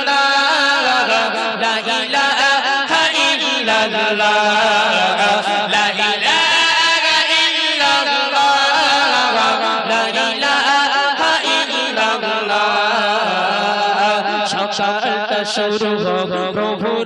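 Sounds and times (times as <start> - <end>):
men singing: 0.0 - 17.0.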